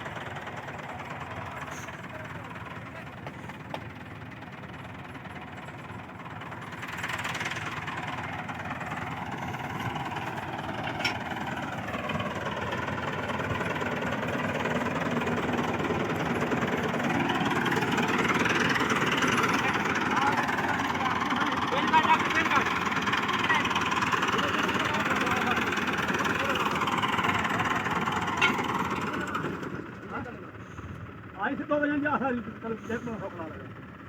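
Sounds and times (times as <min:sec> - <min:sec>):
tractor engine revving: 0:00.0 - 0:31.3.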